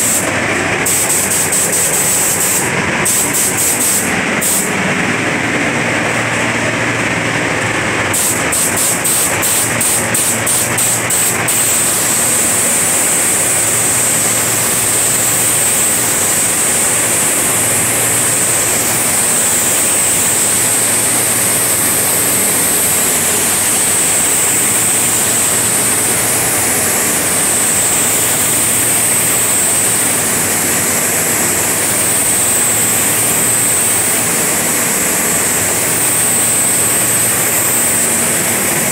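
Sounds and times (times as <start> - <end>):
paint spray gun hissing: 0.0 - 4.8, 8.0 - 38.9.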